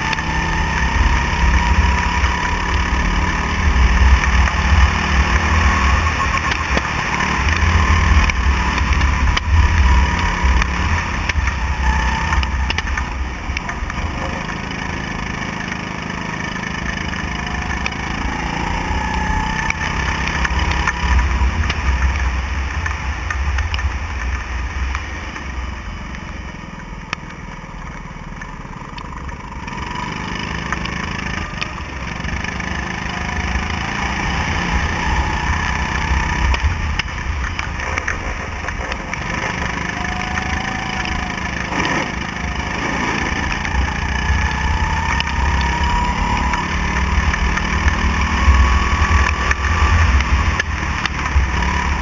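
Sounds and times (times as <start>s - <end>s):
go-kart engine running: 0.0s - 52.0s.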